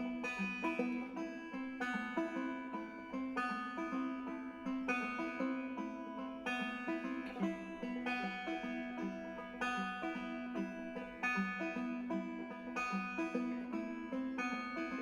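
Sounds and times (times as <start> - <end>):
banjo and guitar tune: 0.0 - 15.0.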